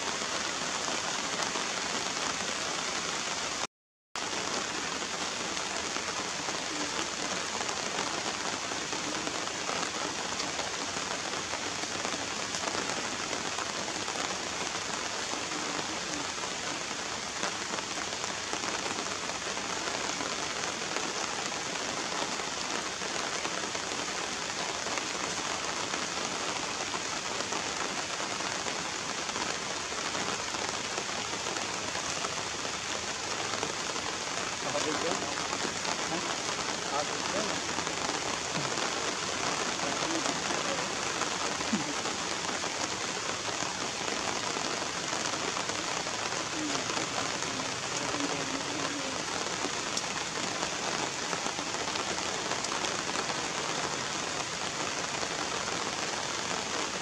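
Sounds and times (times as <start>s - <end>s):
rain pattering on puddles: 0.0s - 57.0s.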